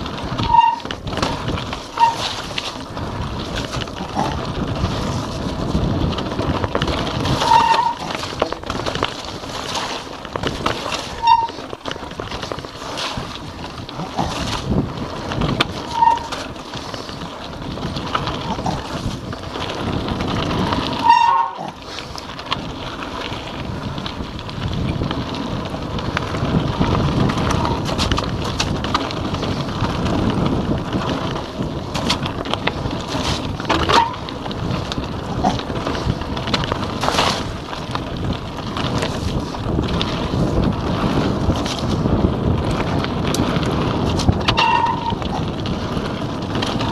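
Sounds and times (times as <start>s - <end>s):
bike rattling over stones: 0.0s - 46.9s
bike tyres rolling: 0.0s - 46.9s
wind on microphone: 0.0s - 46.9s.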